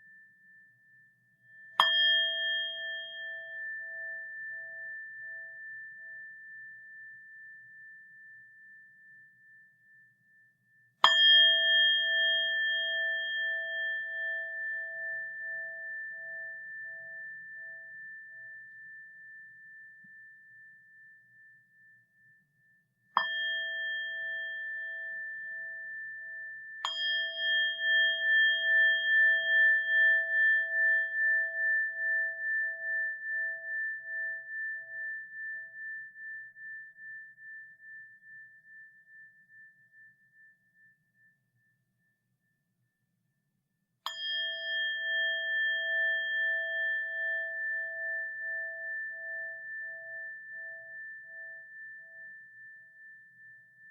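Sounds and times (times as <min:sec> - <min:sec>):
bowl bell ringing: 0:00.0 - 0:10.2, 0:11.0 - 0:22.4, 0:23.2 - 0:41.2, 0:44.1 - 0:53.9.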